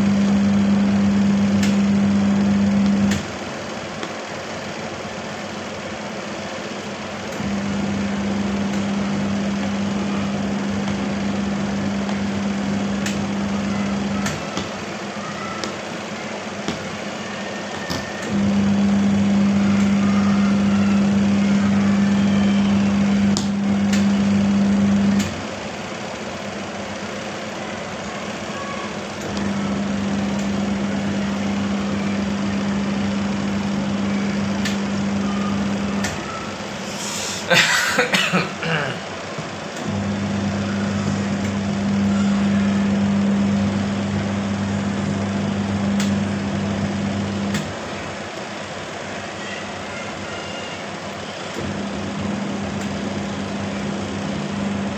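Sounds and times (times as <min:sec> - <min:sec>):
washing machine motor humming: 0:00.0 - 0:54.9.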